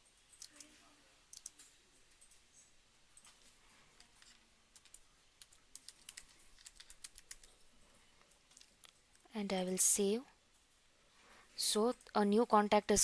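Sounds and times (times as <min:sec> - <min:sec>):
faint keyboard typing: 0:00.0 - 0:10.9.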